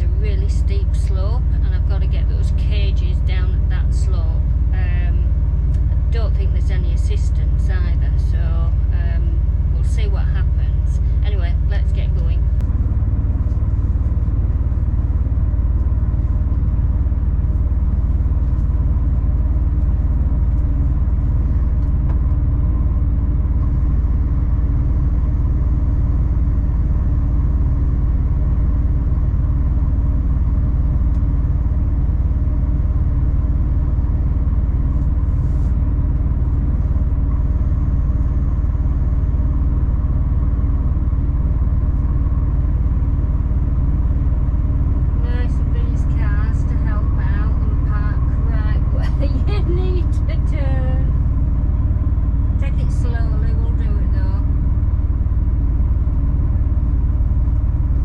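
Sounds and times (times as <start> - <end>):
lorry engine and road rumble: 0.0 - 58.0.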